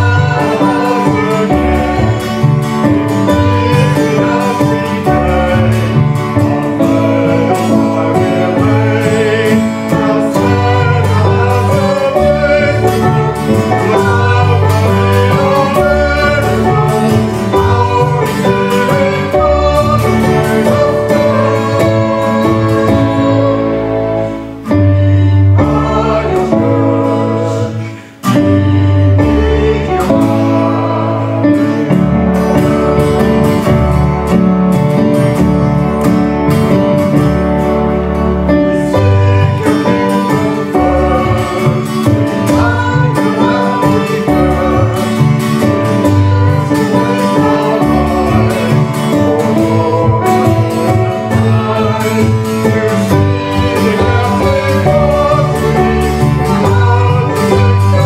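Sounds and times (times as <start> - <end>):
voices singing: 0.0 - 33.7, 38.6 - 58.0
acoustic guitar: 0.0 - 58.0
stage piano: 0.0 - 58.0.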